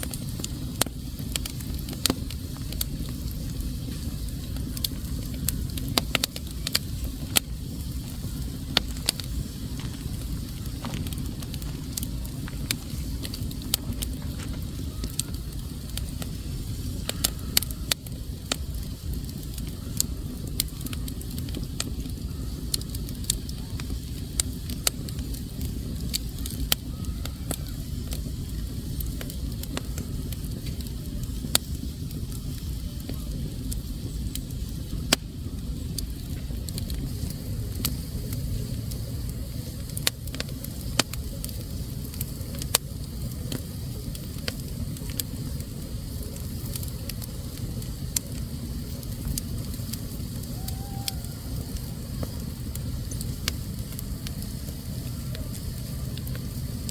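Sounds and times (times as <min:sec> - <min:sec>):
fire crackles and pops: 0:00.0 - 0:56.9
wood fire rumbling: 0:00.0 - 0:56.9.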